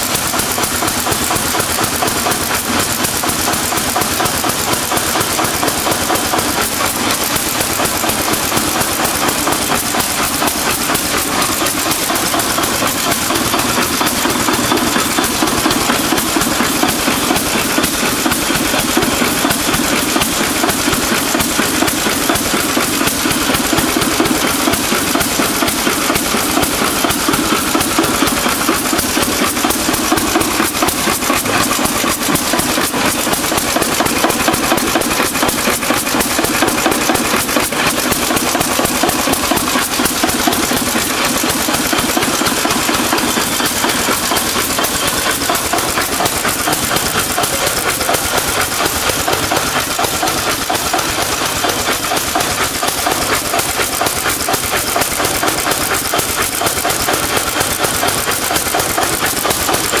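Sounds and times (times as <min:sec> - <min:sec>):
stationary engine running: 0:00.0 - 1:00.0.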